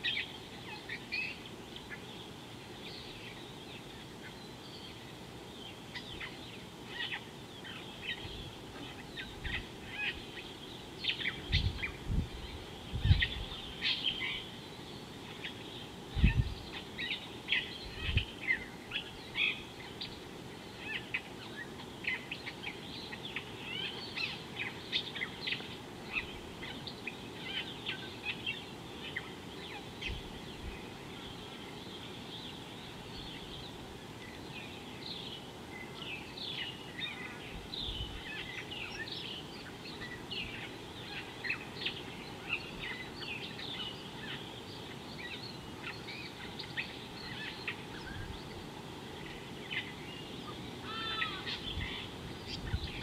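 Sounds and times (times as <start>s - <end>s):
background hiss: 0.0s - 53.0s
small birds chirping: 0.0s - 53.0s.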